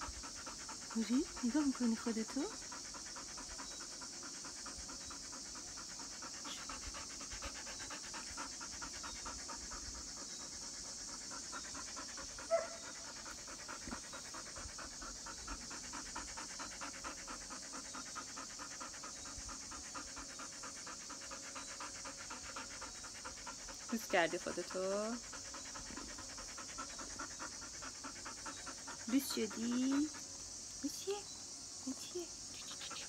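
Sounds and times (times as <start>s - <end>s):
dog panting: 0.0s - 33.0s.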